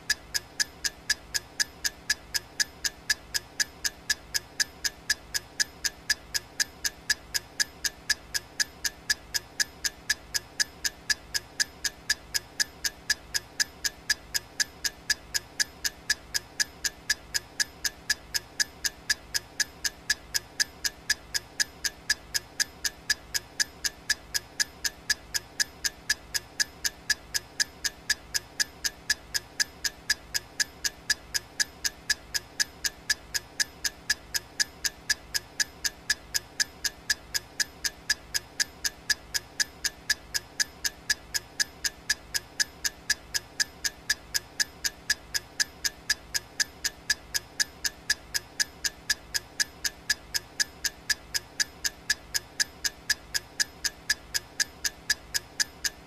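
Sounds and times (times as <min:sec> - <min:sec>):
clock ticking fast: 0:00.0 - 0:56.0.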